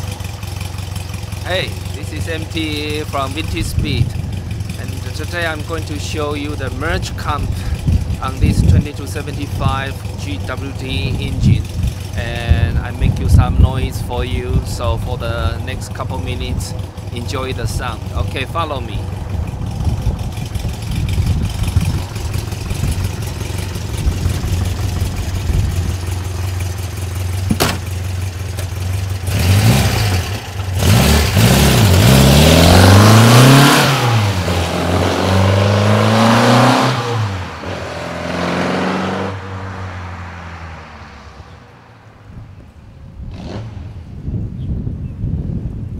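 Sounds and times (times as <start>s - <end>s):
car engine idling and revving: 0.0s - 44.6s.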